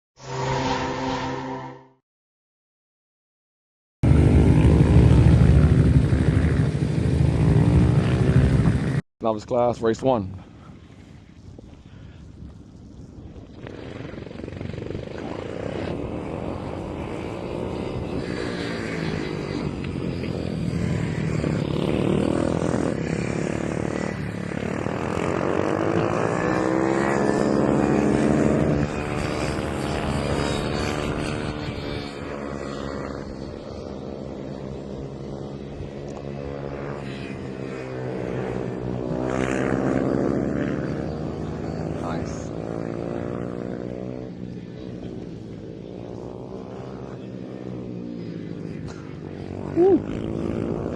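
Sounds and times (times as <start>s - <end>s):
mini motorcycle engines revving: 4.0s - 9.0s, 13.4s - 50.9s.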